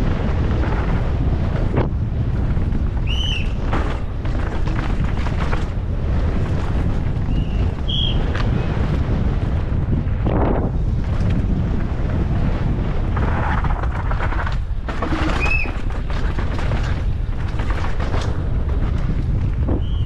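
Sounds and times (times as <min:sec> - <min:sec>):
bike tyres rumbling on dirt: 0:00.0 - 0:20.0
wind rushing over microphone: 0:00.0 - 0:20.0.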